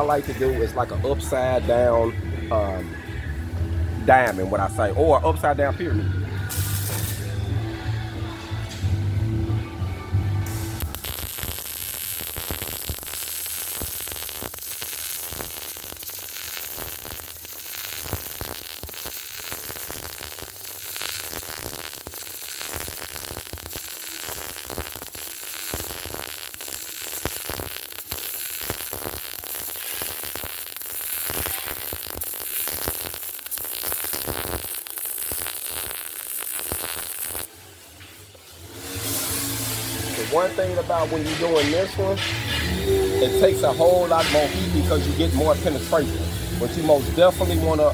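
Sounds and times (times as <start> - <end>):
welding arc crackling: 0.0 - 2.8, 4.1 - 7.9, 10.2 - 47.9.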